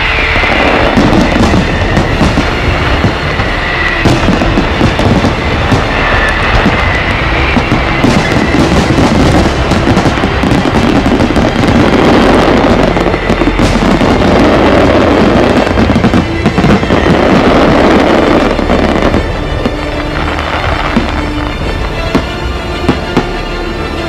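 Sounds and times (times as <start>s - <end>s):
firework shells bursting: 0.0s - 23.3s
fireworks crackling: 0.0s - 24.0s.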